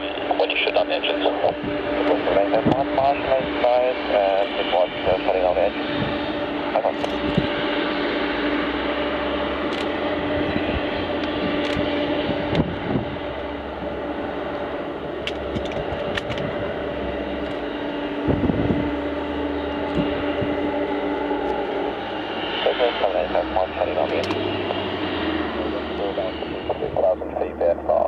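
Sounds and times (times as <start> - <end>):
jet engines idling: 0.0 - 28.0.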